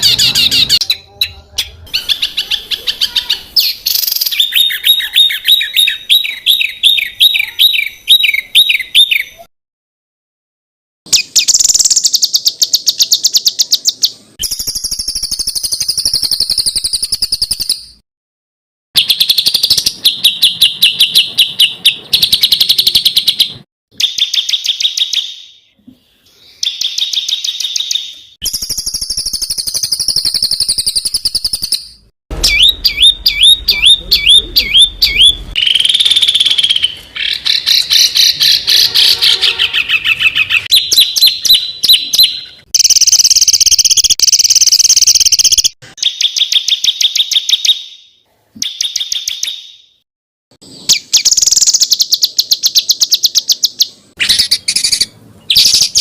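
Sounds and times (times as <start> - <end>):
songbirds singing rapid high notes: 0.0 - 9.5, 11.1 - 18.0, 19.0 - 50.0, 50.6 - 56.0.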